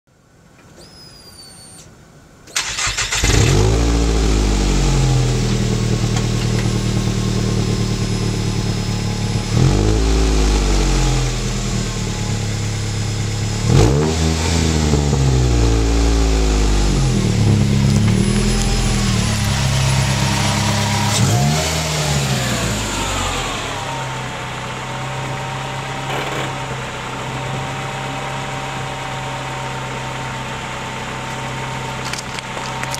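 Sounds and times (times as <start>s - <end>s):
car engine revving: 2.6s - 32.9s.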